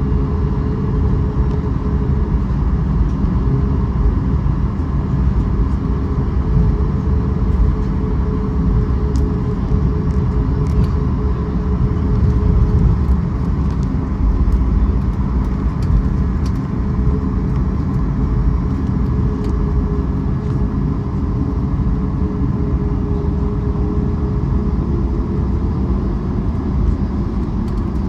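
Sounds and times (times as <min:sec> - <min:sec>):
constant hum: 0:00.0 - 0:28.0
vehicle rumble: 0:00.0 - 0:28.0.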